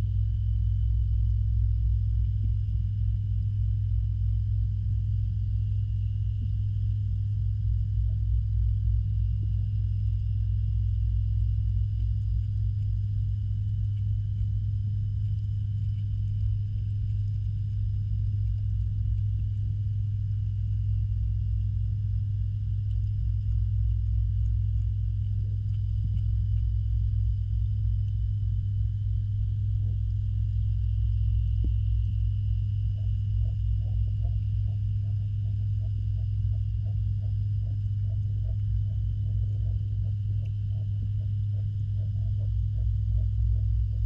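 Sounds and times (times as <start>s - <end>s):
faint high whine: 0.0s - 44.0s
pond pump humming underwater: 0.0s - 44.0s.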